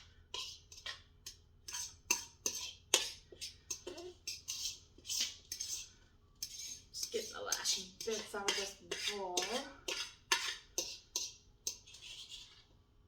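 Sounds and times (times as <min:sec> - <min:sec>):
utensil scraping a mixing bowl: 0:00.0 - 0:12.8.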